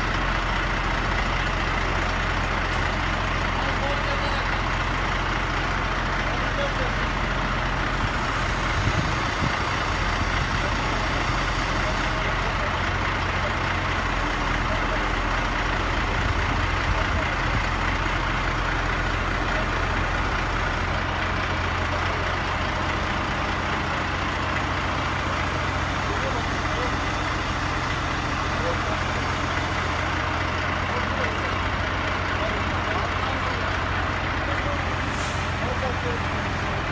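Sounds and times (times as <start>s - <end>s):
heavy vehicle engine idling: 0.0s - 36.9s.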